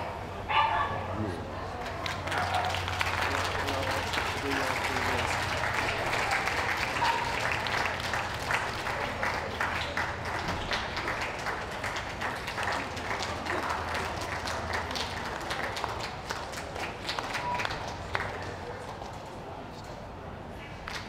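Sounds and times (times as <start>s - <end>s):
audience applauding: 1.8s - 18.9s.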